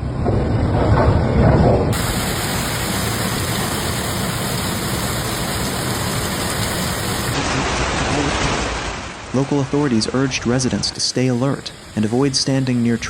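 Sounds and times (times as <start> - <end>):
heavy rain pouring: 2.0 - 13.0.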